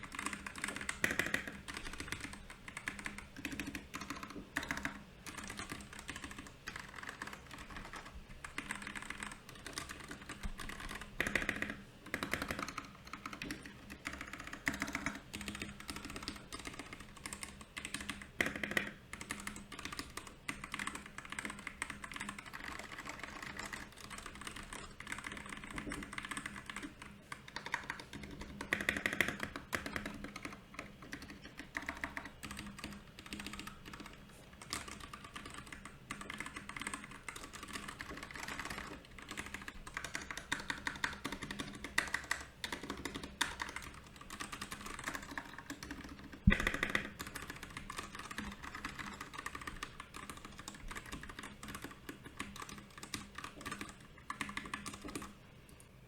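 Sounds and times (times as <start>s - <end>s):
typing on mechanical keyboard: 0.0s - 55.8s.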